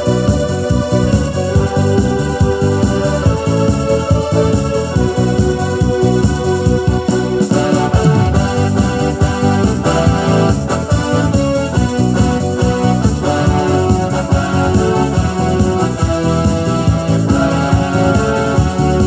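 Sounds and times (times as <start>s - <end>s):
electronic keyboard playing hymn: 0.0s - 19.0s.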